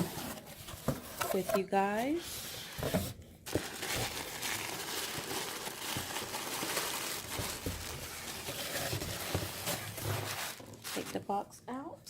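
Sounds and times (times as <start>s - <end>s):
packaging rustling and crinkling: 0.0s - 11.4s.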